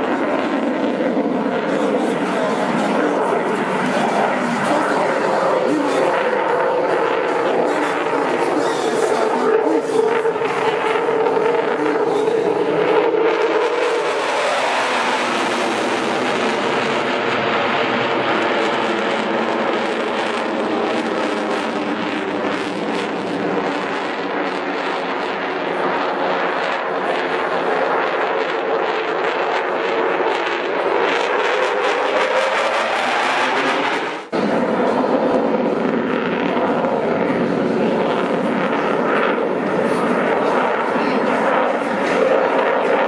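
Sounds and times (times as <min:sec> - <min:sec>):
fighter jet engines roaring: 0:00.0 - 0:43.0.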